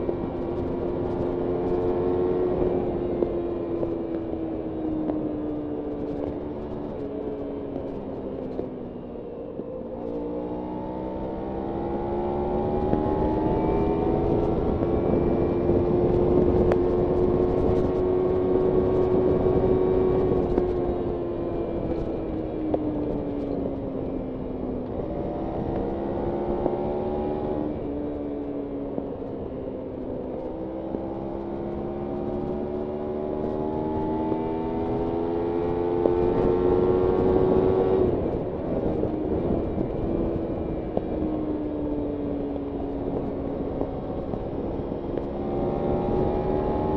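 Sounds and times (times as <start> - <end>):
motorcycle engine accelerating: 0.0 - 46.9
wind and road noise: 0.0 - 46.9.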